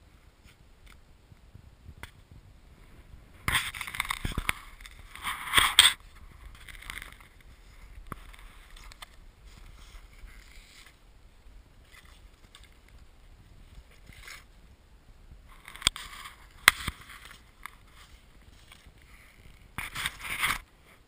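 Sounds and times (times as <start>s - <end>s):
snow crunching and scraping: 2.2s - 21.0s.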